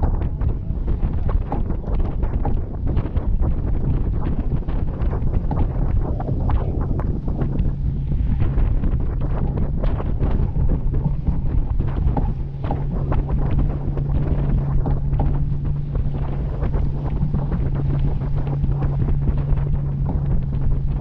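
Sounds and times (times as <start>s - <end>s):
steady low hum: 0.0s - 21.0s
wind buffeting microphone: 0.0s - 21.0s.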